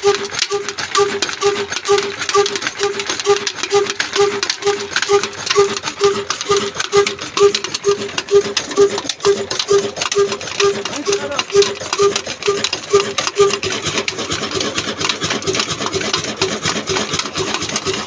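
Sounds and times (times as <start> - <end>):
diesel engine ringing beat: 0.0 - 18.0
machinery clatter: 0.0 - 18.0.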